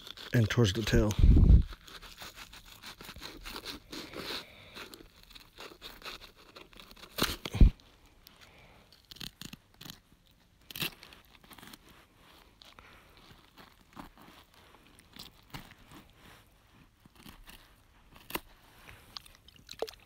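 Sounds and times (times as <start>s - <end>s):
knife cutting and scraping fish: 0.0s - 20.0s.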